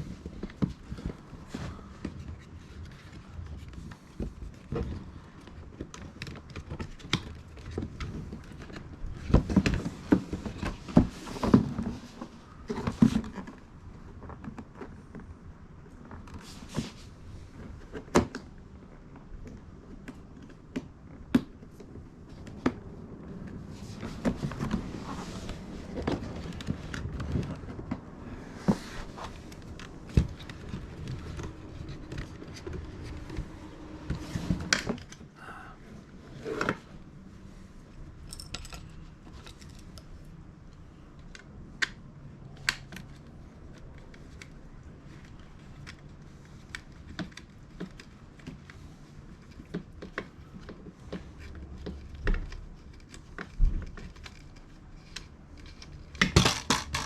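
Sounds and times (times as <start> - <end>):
handling and rustling: 0.0 - 57.0.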